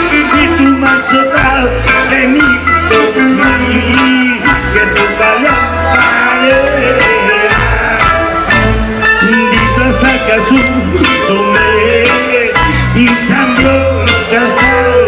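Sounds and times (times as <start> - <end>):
bass line: 0.0 - 15.0
drum beat: 0.0 - 15.0
electric guitar: 0.0 - 15.0.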